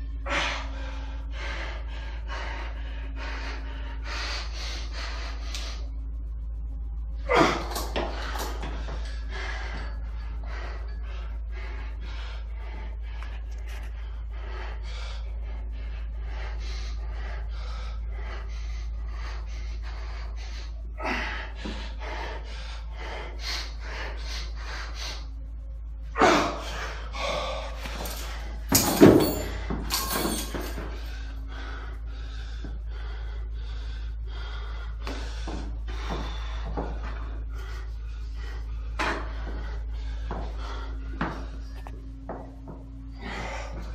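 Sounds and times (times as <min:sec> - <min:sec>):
man breathing hard: 0:00.0 - 0:43.9
steady low hum: 0:00.0 - 0:43.9.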